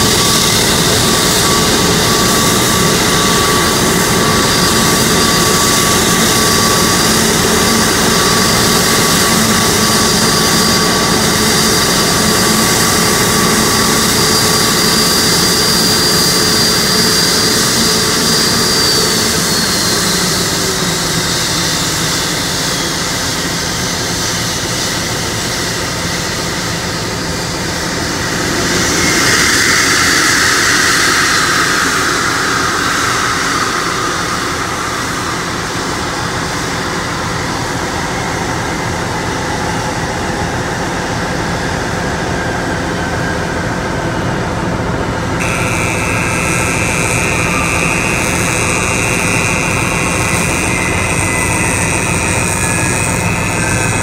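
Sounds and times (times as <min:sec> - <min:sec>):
high-pitched whine: 0:00.0 - 0:54.0
jet engines whining roar: 0:00.0 - 0:54.0.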